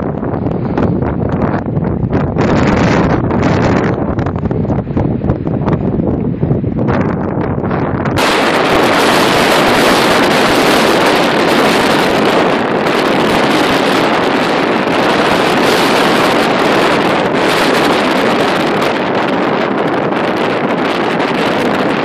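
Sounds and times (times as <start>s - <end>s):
storm wind: 0.0s - 22.0s
waves washing against bank: 0.0s - 22.0s.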